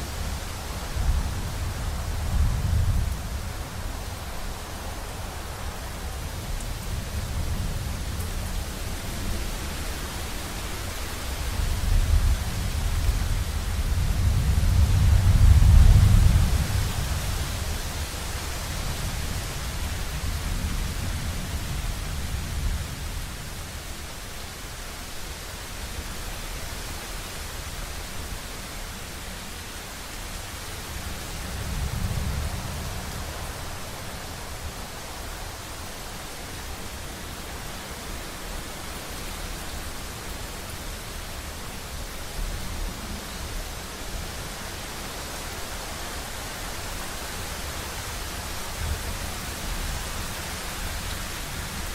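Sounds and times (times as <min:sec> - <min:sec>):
rainstorm hiss: 0:00.0 - 0:51.9.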